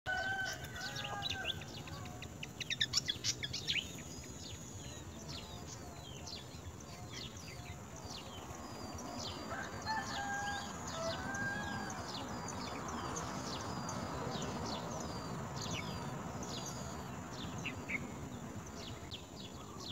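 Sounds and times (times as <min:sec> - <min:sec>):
low steady bird call: 0:00.1 - 0:19.9
nestlings begging chirps: 0:00.1 - 0:19.9.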